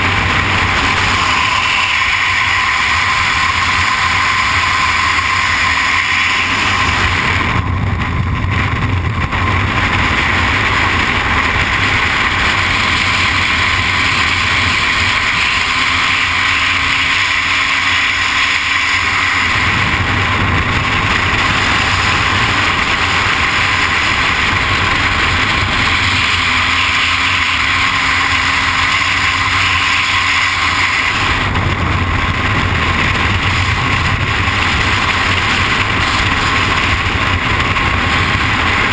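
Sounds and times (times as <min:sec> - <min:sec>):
wind blasting over microphone: 0:00.0 - 0:38.9.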